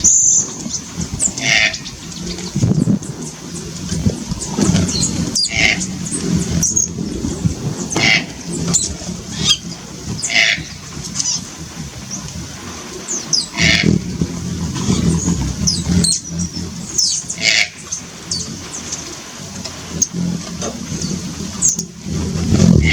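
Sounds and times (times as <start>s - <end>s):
toucan low croaking: 0.0s - 22.9s.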